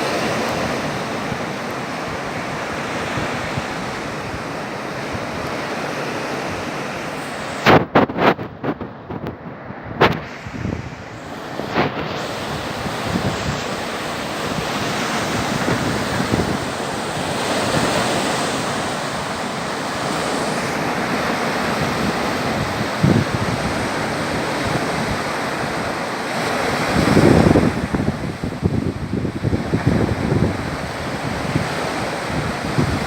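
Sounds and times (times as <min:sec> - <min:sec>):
surf washing onto shore: 0:00.0 - 0:33.0
wind buffeting microphone: 0:00.0 - 0:33.0.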